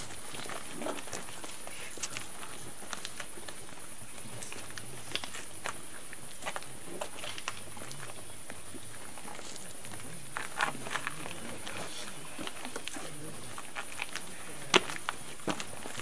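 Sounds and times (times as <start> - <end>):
faint low murmur: 0.0 - 16.0
footsteps of people walking: 0.0 - 16.0
steady high hiss: 0.0 - 16.0.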